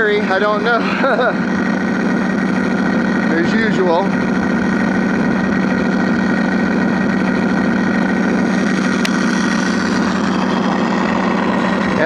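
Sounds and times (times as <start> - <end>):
recorded piston aero-engine drone: 0.0 - 12.0.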